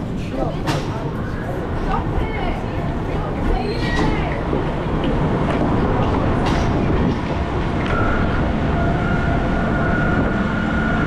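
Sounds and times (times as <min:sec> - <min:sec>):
ride train rumbling on track: 0:00.0 - 0:11.0.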